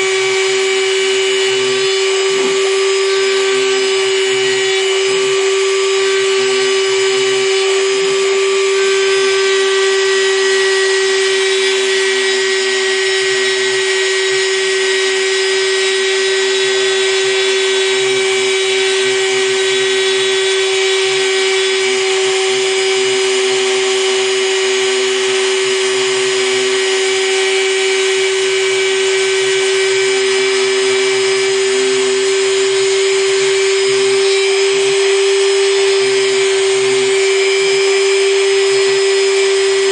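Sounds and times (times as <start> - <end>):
router motor whine: 0.0 - 39.9.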